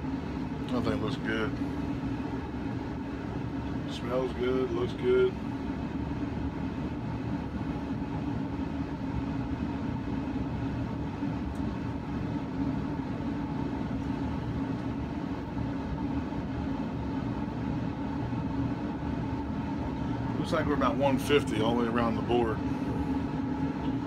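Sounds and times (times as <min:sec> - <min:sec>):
smoker fan humming: 0:00.0 - 0:24.0.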